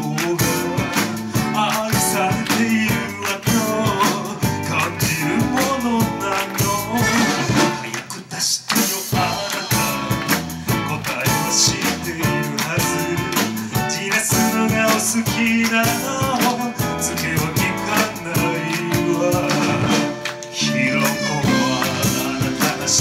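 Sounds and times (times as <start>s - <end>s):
electric guitar: 0.0s - 8.2s, 8.8s - 23.0s
drums: 0.0s - 23.0s
live band playing lounge-pop: 0.0s - 23.0s
man singing: 0.0s - 23.0s.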